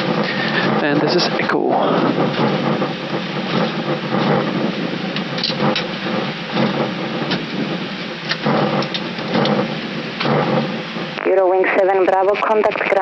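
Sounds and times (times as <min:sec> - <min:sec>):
rumbling hiss of jet engines: 0:00.0 - 0:13.0.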